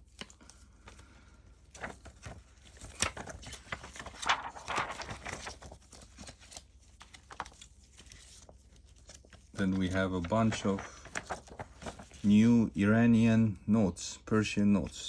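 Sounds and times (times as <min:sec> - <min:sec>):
banknotes rustling: 0:00.0 - 0:12.7.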